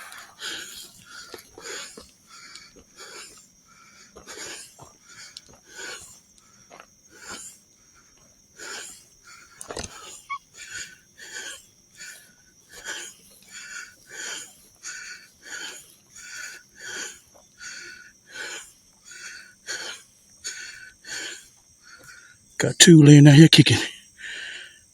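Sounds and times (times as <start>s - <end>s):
person breathing heavily: 0.0s - 22.5s, 24.2s - 24.9s.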